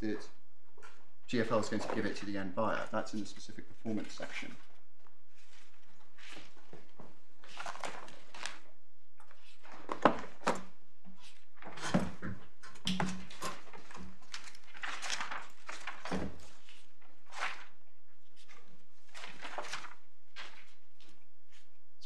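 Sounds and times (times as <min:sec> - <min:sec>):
paper rustling: 0:01.6 - 0:02.3, 0:03.1 - 0:21.8.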